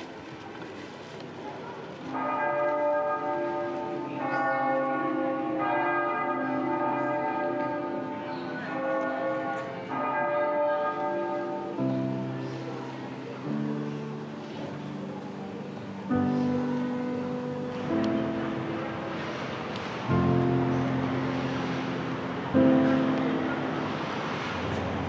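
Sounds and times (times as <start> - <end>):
bells ringing: 2.2 - 24.5.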